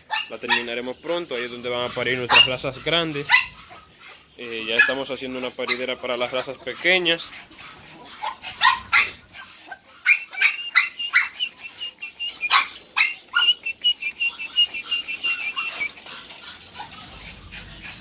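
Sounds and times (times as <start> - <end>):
small dogs barking and yapping: 0.0 - 18.0.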